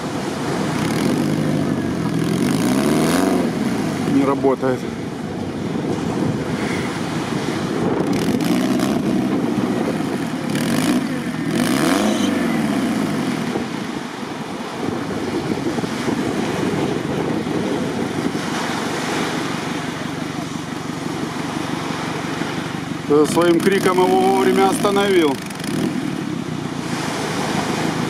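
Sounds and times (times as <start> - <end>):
engine revving under load: 0.0 - 28.0.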